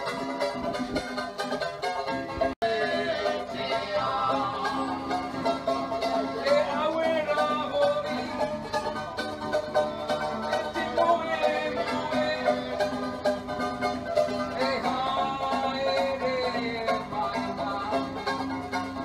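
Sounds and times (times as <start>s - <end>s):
acoustic guitar strumming: 0.0s - 19.0s
ukulele strumming: 0.0s - 19.0s.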